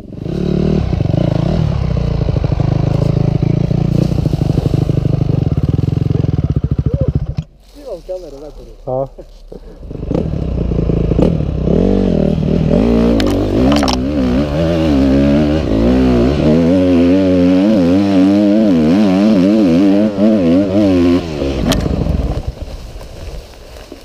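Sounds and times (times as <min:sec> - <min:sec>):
dirt bike engine revving: 0:00.0 - 0:07.4, 0:09.6 - 0:22.6.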